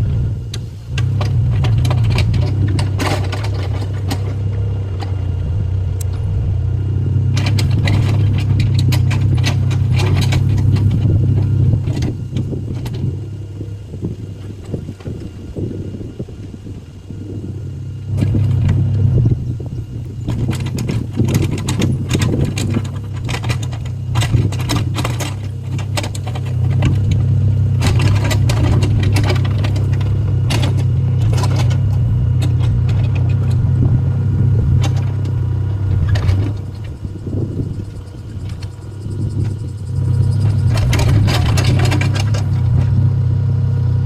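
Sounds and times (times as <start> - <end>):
excavator diesel engine: 0.0 - 44.0
metallic clanks and rattles: 0.5 - 15.3, 20.1 - 43.8.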